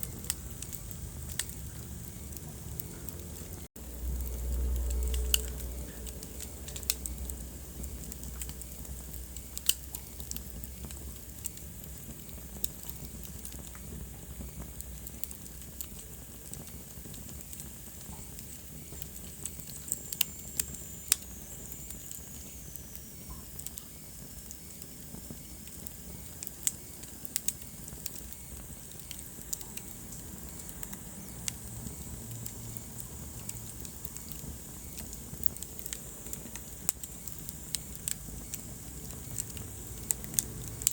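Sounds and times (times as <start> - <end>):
fire crackles and pops: 0.0 - 40.9
fire hissing: 0.0 - 40.9.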